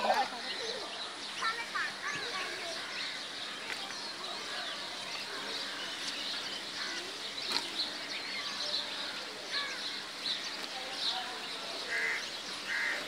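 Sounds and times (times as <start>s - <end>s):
background hiss: 0.0s - 13.0s
small birds chirping: 0.0s - 13.0s.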